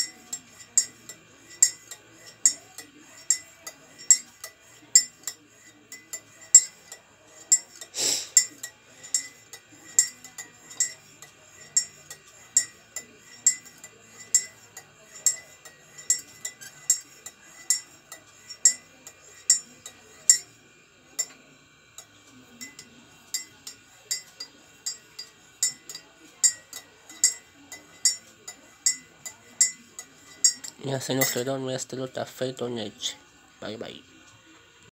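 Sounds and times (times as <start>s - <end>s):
spoon clinking in ceramic mug: 0.0s - 20.6s, 22.0s - 31.5s.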